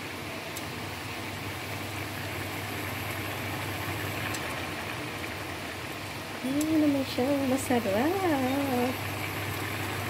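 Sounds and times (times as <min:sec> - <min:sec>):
sauce bubbling in a pan: 0:00.1 - 0:10.0.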